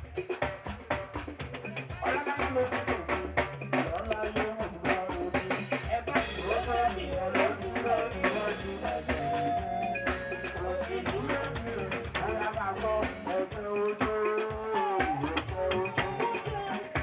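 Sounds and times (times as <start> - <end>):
drum beat: 0.0 - 17.0
upbeat party music: 0.0 - 17.0
bass line: 1.4 - 17.0
person singing: 1.9 - 17.0.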